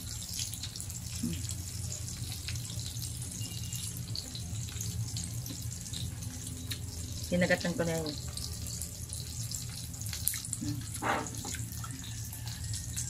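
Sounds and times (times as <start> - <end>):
low steady hum: 0.0 - 13.0
meat sizzling on grill pan: 0.0 - 13.0.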